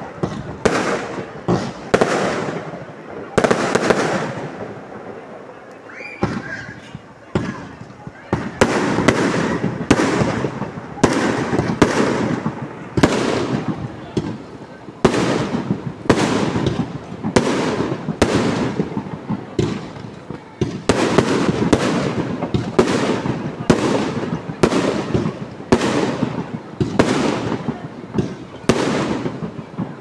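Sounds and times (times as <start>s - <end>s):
fireworks exploding: 0.0s - 30.0s.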